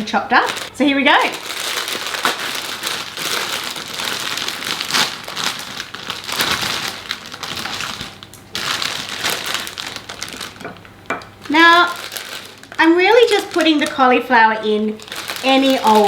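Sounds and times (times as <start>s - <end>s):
plastic packet crinkling: 0.0s - 16.0s.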